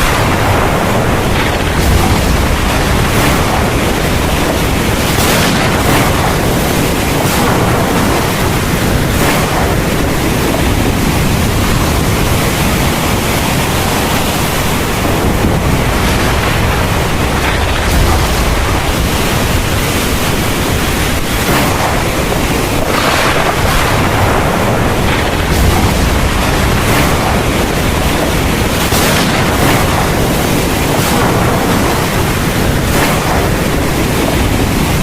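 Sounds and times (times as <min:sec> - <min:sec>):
heavy rain pouring: 0:00.0 - 0:35.0
thunder rumble: 0:00.0 - 0:35.0.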